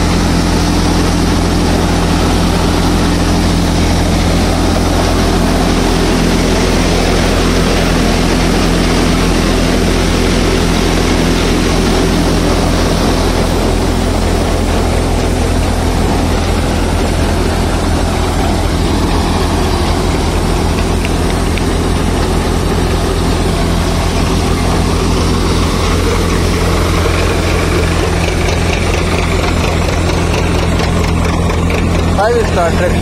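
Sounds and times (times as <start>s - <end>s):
thresher drum whirring: 0.0s - 33.0s
tractor diesel engine running: 0.0s - 33.0s.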